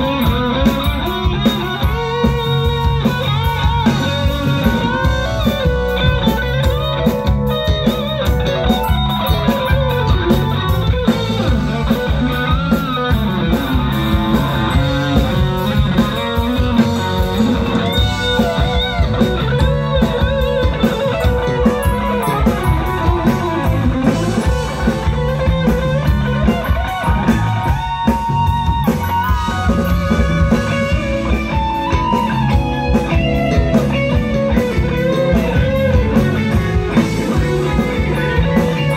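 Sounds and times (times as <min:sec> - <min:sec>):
busy drumming: 0:00.0 - 0:38.9
electric guitar line: 0:00.0 - 0:38.9
live rock band playing: 0:00.0 - 0:38.9.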